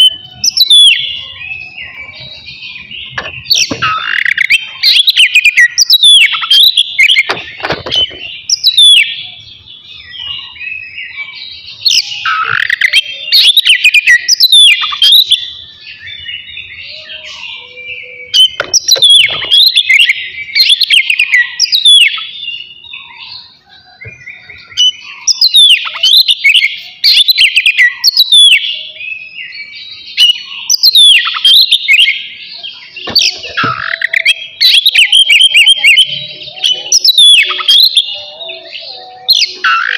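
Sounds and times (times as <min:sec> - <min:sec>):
bird singing shrill whistles: 0:00.0 - 0:09.4, 0:10.0 - 0:38.1
soft bird twittering: 0:00.0 - 0:39.9.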